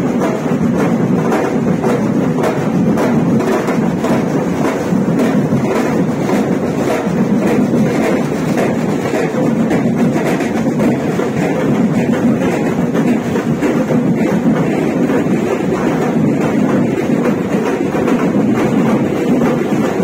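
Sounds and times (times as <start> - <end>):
marching band drumming: 0.0 - 20.0.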